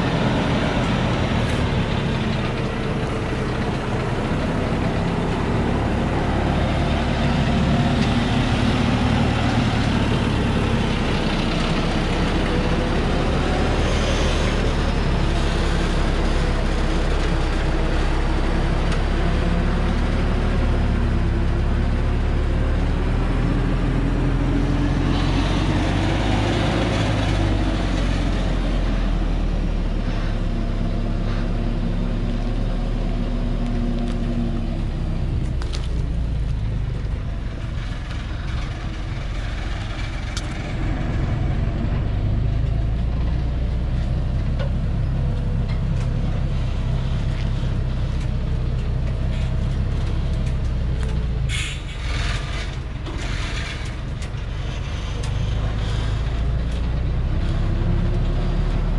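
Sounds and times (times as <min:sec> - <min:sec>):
truck diesel engine running: 0:00.0 - 0:58.9.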